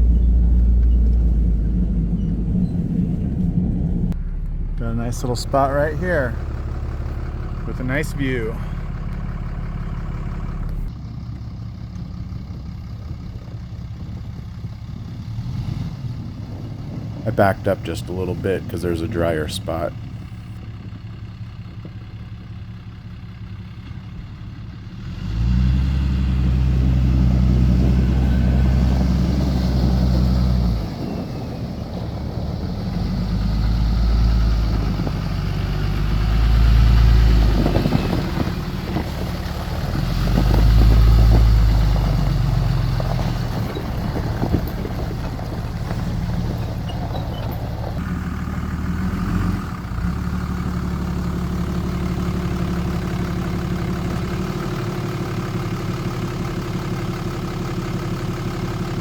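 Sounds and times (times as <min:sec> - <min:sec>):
pickup truck engine revving: 0:00.0 - 0:10.9, 0:15.2 - 0:20.5, 0:24.9 - 0:57.2.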